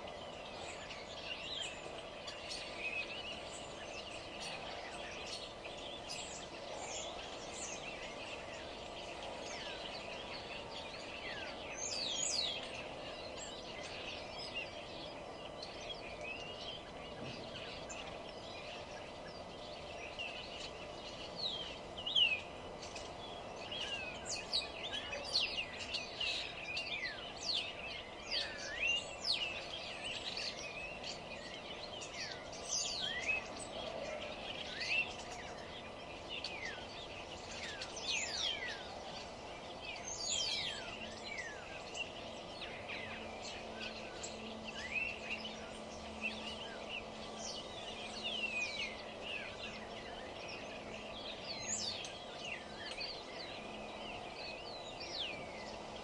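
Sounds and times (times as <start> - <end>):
songbirds chirping and singing: 0.0 - 56.0
steady background hum: 0.0 - 56.0.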